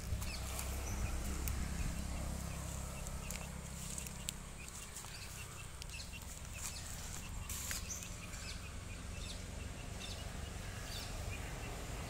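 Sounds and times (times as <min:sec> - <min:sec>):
diesel engine running slowly: 0:00.0 - 0:12.0
small birds chirping: 0:00.0 - 0:12.0.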